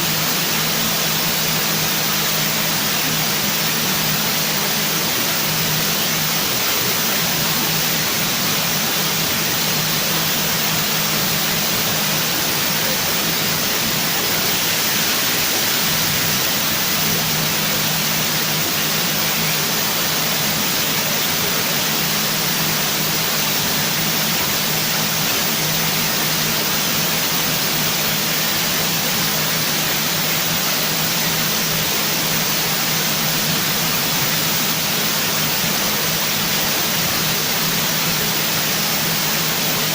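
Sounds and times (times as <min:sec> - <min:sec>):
steady loud hiss: 0:00.0 - 0:39.9.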